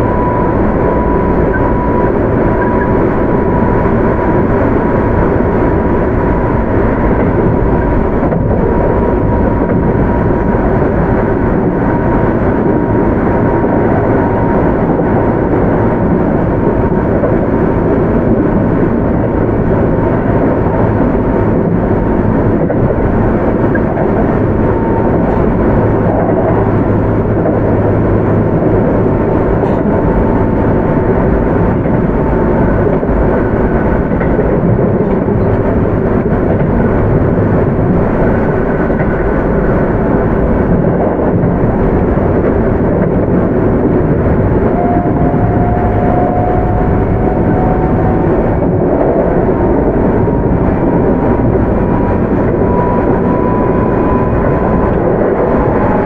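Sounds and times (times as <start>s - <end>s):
thin train whine: 0.0s - 56.0s
train wheels rumbling on rail: 0.0s - 56.0s.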